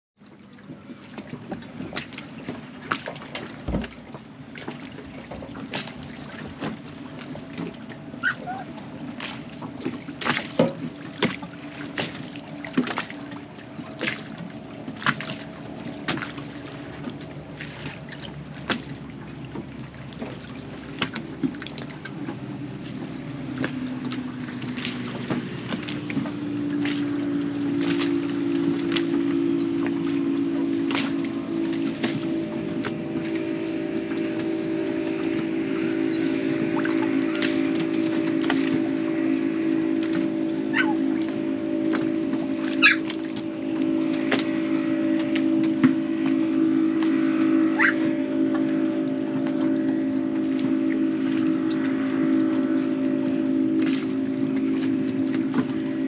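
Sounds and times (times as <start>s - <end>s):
motorboat engine drone: 0.2s - 56.0s
waves slapping boat hull: 0.2s - 56.0s.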